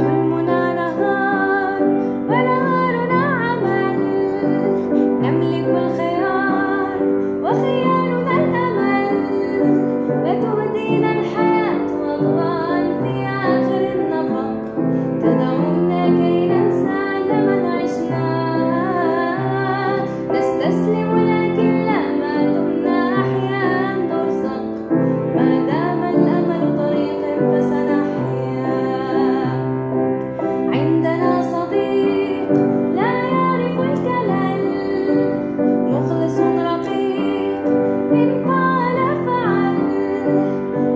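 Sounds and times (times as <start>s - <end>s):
piano chords: 0.0s - 40.9s
woman singing: 0.0s - 40.9s.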